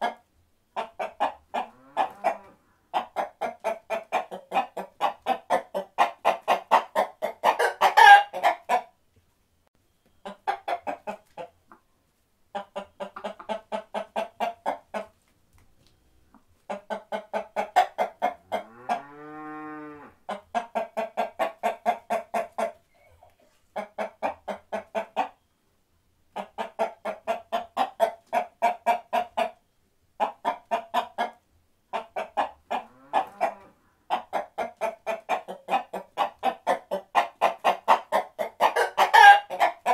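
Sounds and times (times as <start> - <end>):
chickens clucking: 0.0 - 9.0, 10.0 - 19.4, 20.2 - 25.5, 26.3 - 39.9.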